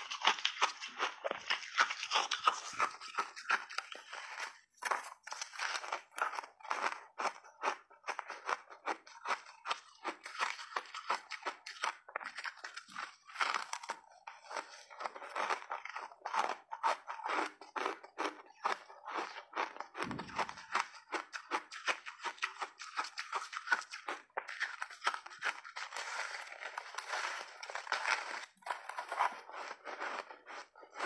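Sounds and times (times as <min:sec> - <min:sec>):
crunching and chewing ice: 0:00.0 - 0:31.0.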